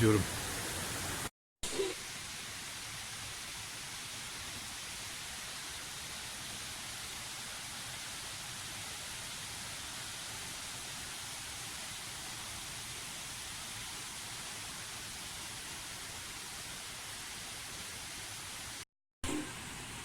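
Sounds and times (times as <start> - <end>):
hiss of falling water: 0.0 - 20.0.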